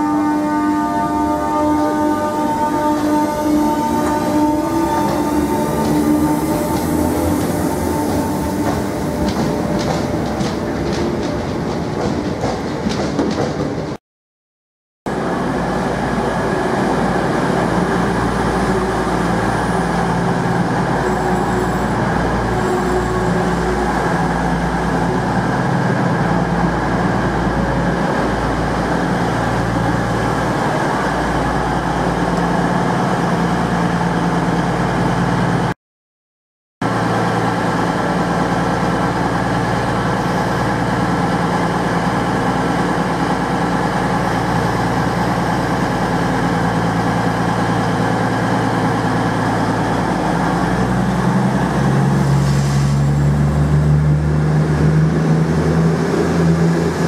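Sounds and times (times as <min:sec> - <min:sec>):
train diesel engines running: 0:00.0 - 0:14.0, 0:15.1 - 0:35.7, 0:36.8 - 0:57.0.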